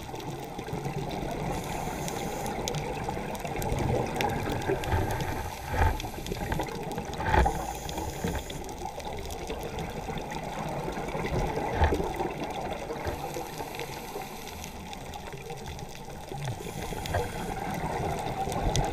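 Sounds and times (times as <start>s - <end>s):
water rushing and gurgling: 0.0s - 18.9s.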